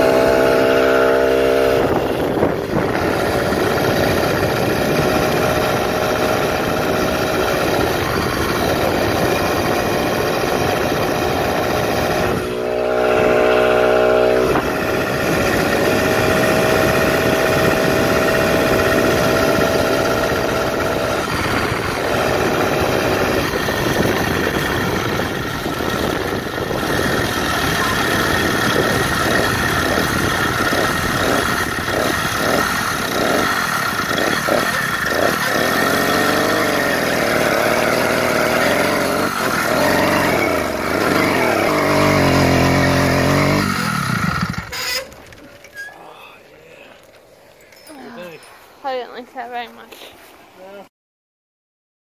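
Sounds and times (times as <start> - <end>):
small two-stroke engine running: 0.0 - 45.7.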